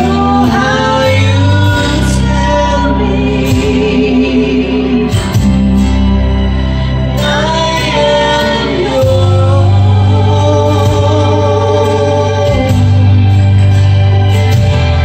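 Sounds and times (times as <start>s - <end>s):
man and woman singing duet: 0.0s - 5.7s, 7.1s - 13.6s
instrumental backing music: 0.0s - 15.0s.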